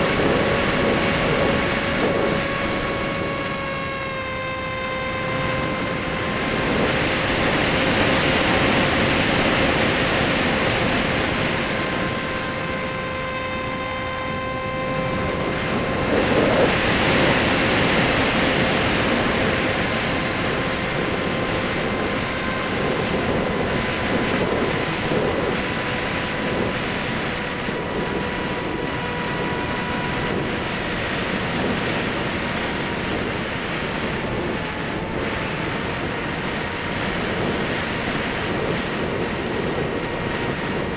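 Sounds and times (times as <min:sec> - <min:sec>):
electric motor and propeller whining: 0:00.0 - 0:40.9
wind rushing over microphone: 0:00.0 - 0:40.9.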